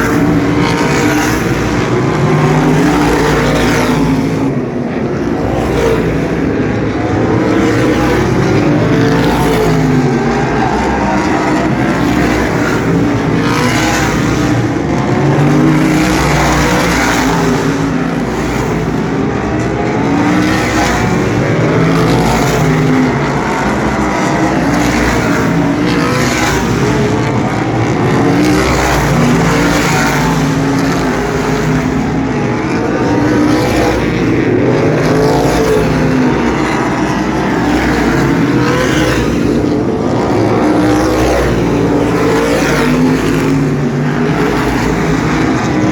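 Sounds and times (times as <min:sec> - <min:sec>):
race cars sweeping past: 0:00.0 - 0:45.9.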